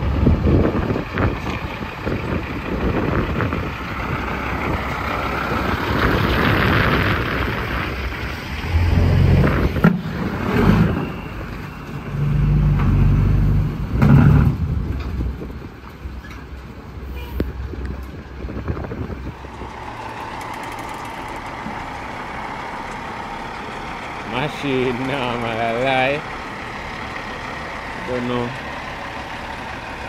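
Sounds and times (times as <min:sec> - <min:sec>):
heavy diesel trucks running: 0:00.0 - 0:30.0.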